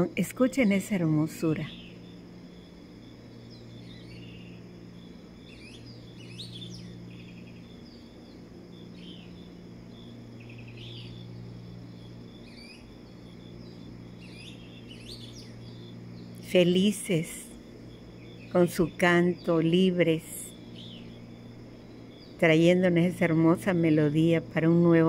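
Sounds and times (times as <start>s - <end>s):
birds chirping and trilling: 0.0s - 25.0s
low hum: 0.0s - 25.0s.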